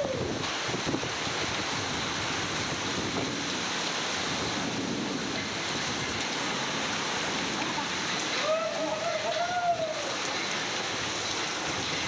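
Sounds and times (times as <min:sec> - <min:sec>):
heavy rain in strong wind: 0:00.0 - 0:12.0.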